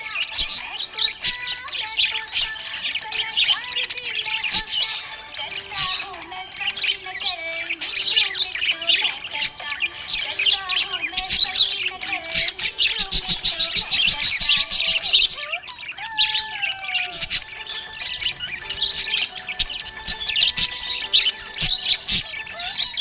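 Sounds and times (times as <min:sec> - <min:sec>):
parrots chirping and chattering: 0:00.0 - 0:23.0.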